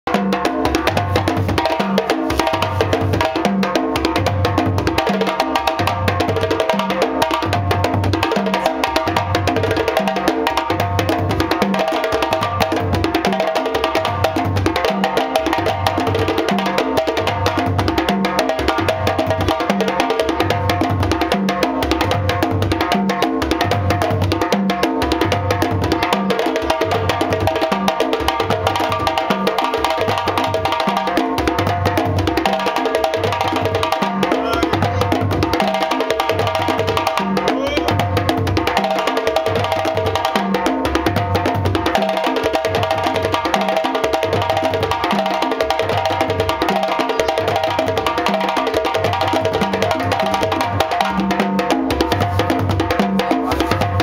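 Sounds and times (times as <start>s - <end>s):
hand drums slapped: 0.1s - 54.0s.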